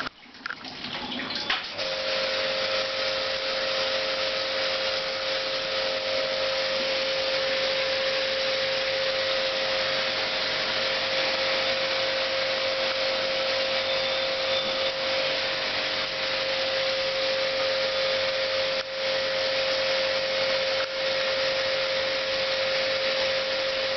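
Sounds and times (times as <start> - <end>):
pump motor whine: 0.0 - 23.9.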